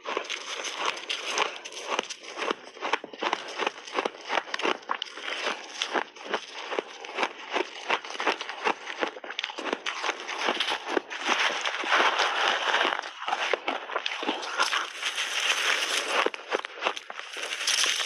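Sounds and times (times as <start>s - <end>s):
chewing crunchy ice: 0.0s - 18.0s.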